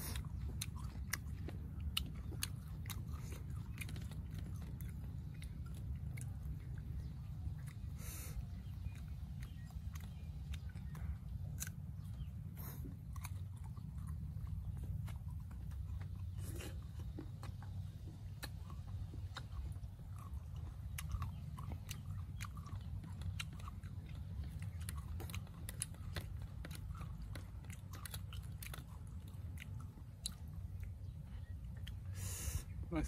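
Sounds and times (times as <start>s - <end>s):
person chewing crunchy fruit: 0.0s - 33.0s.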